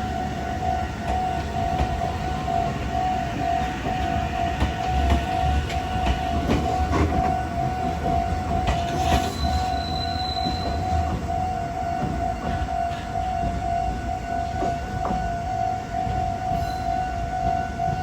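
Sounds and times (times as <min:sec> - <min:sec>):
level-crossing warning bell: 0:00.0 - 0:18.0
train wheels rumbling over rail joints: 0:00.0 - 0:18.0.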